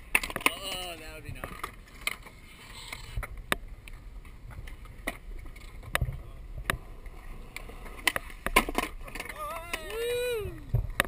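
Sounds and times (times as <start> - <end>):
skateboard clacks: 0.0 - 11.0
skateboard wheels rumbling: 0.0 - 11.0.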